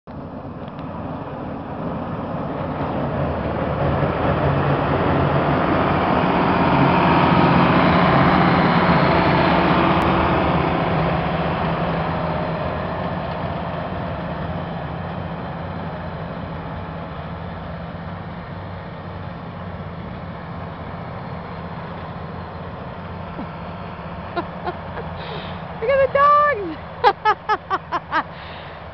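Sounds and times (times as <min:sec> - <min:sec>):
tractor diesel engine hum: 0:00.1 - 0:28.9
snowblower rushing snow: 0:00.2 - 0:28.9.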